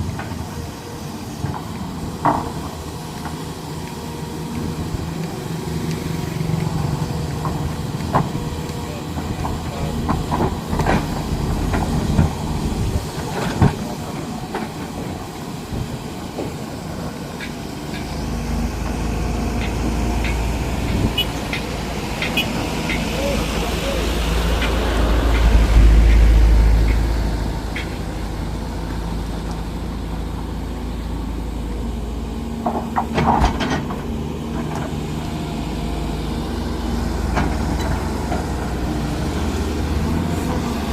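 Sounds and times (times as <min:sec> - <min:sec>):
diesel construction machinery running: 0:00.0 - 0:40.9.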